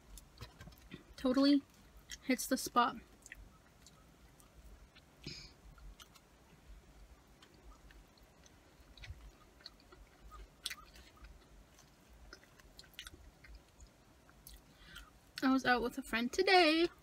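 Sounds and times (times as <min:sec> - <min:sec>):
faint chewing: 0:00.0 - 0:15.5.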